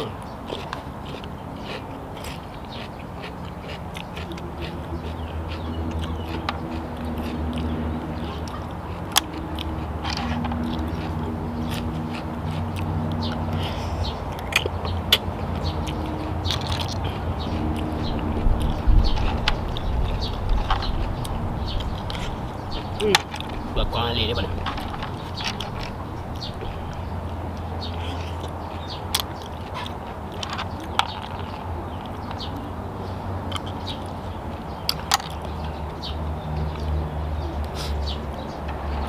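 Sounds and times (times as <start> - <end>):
chewing: 0.0 - 39.0.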